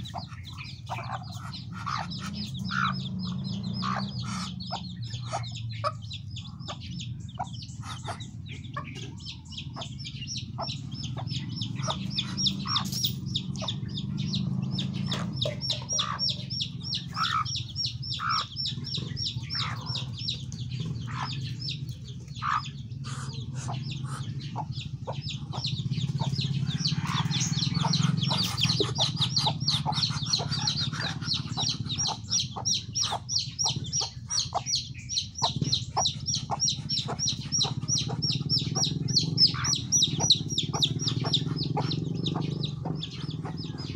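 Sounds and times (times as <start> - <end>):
chicks peeping: 0.0 - 43.9
hen clucking: 0.0 - 43.9.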